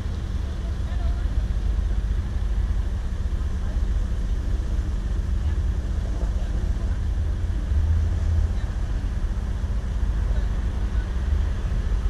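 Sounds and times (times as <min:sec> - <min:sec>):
faint constant hum: 0:00.0 - 0:12.0
low rumble: 0:00.0 - 0:12.0.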